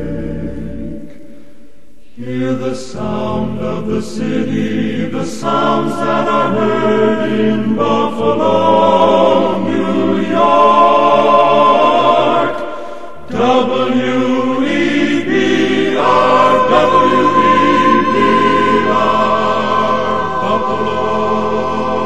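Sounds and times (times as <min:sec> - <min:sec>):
a cappella group singing chords: 0:00.0 - 0:22.0.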